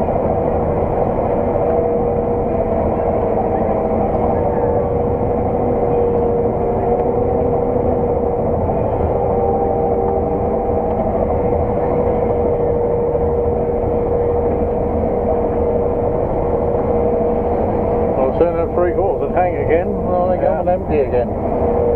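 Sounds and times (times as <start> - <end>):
constant drivetrain whine: 0.0 - 21.9
diesel engine droning under load: 0.0 - 21.9.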